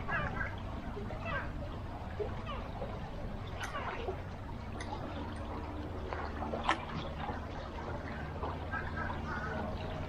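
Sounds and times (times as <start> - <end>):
water lapping against hull: 0.0 - 10.0.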